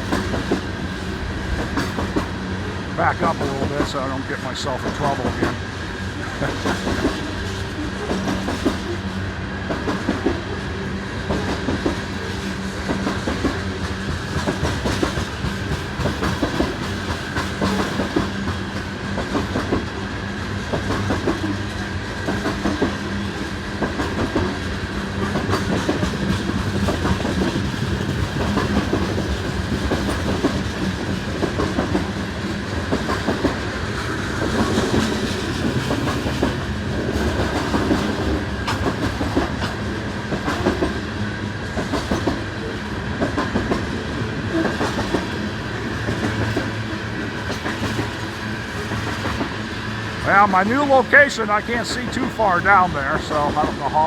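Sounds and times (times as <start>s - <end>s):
train wheels clattering over rails: 0.0s - 54.0s.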